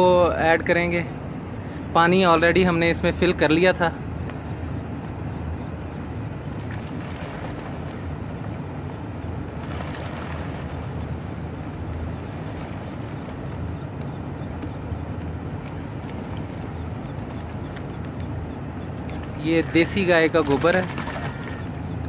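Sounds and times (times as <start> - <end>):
steady low rumble: 0.0 - 20.5.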